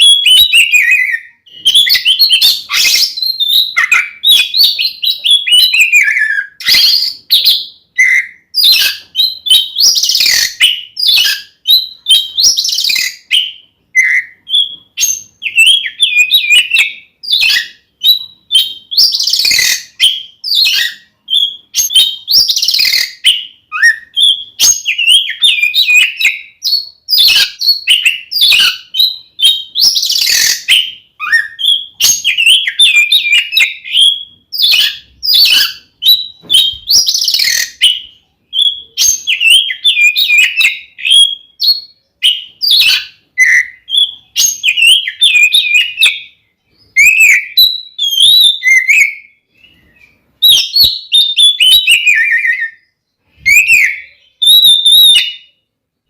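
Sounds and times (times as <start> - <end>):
harsh rasping bird calls: 0.0 - 55.5
bird singing whistled phrases: 0.0 - 55.6.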